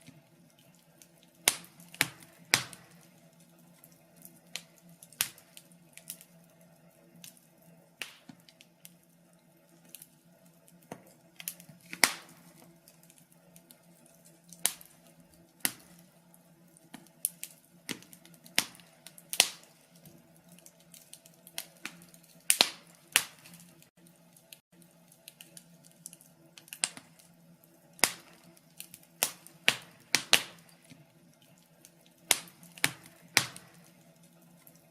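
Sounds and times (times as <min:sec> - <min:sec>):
faint steady hum: 0:00.0 - 0:34.9
wood fire crackling: 0:00.0 - 0:34.9.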